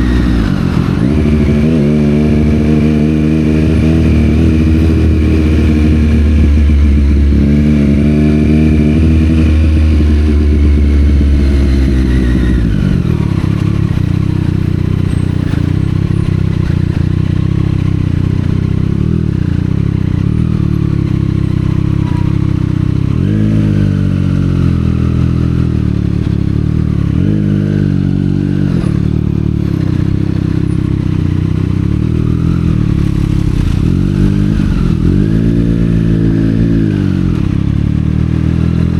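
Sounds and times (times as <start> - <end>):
motorcycle engine revving: 0.0 - 38.9
motorcycle throttle blips: 0.0 - 38.9.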